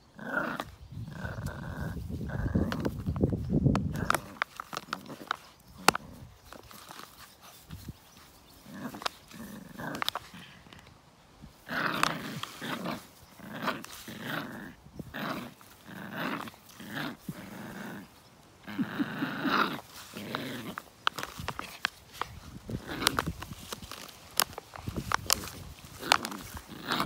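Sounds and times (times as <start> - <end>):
puppy growling: 0.1 - 27.0.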